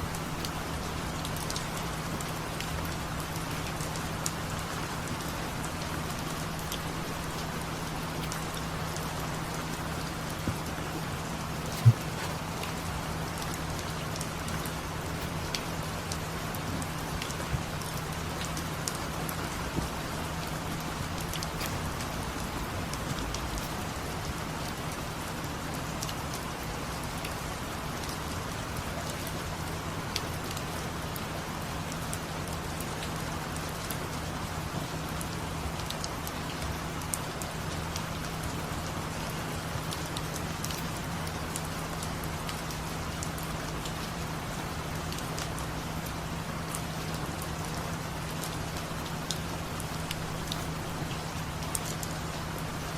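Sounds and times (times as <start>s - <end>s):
low steady hum: 0.0s - 52.9s
rain falling: 0.0s - 52.9s.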